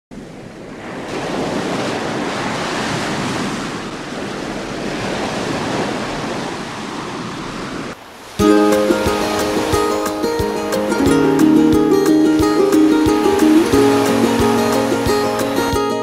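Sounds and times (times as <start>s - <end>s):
ocean waves breaking: 0.1s - 16.0s.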